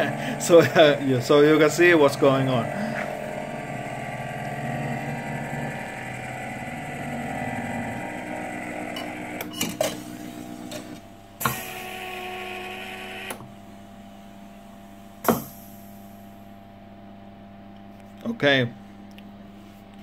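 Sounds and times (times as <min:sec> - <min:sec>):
motor whine and hum: 0:00.0 - 0:17.8.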